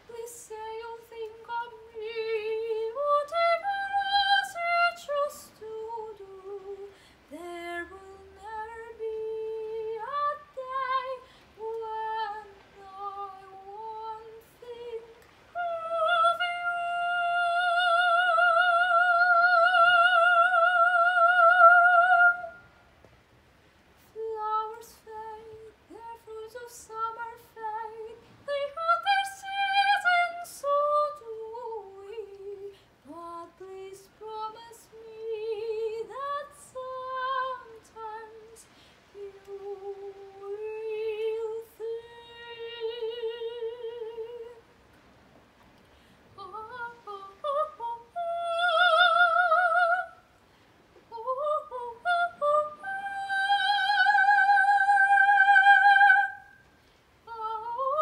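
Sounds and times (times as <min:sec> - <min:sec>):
woman singing soprano: 0:00.0 - 0:22.8, 0:24.0 - 0:44.7, 0:46.3 - 0:50.4, 0:51.0 - 0:58.0.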